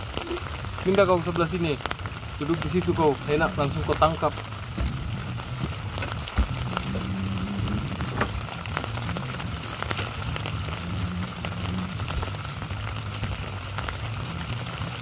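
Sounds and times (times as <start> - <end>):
drizzle pattering: 0.0 - 15.0
low steady hum: 0.0 - 15.0.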